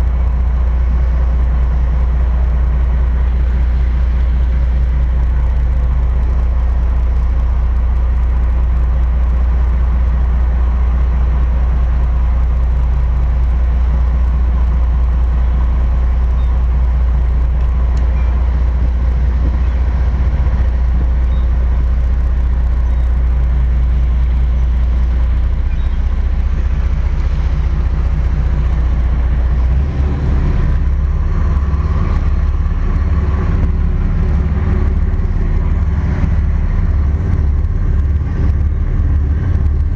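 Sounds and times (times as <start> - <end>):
marine diesel engines droning: 0.0 - 39.9.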